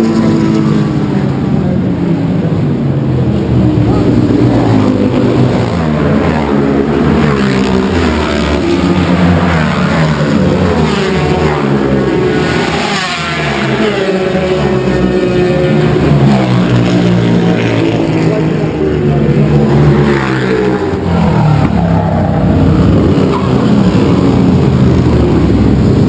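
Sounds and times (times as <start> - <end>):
racing motorcycles revving past: 3.8 - 26.0.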